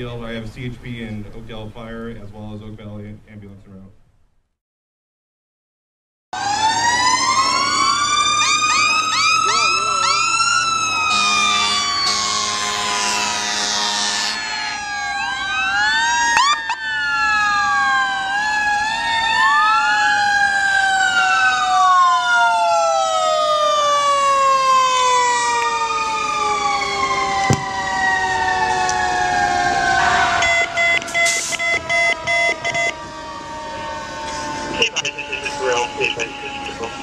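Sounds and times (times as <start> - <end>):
rapid pulsing siren tone: 6.4 - 24.8, 25.4 - 37.0
emergency sirens wailing: 6.4 - 37.0.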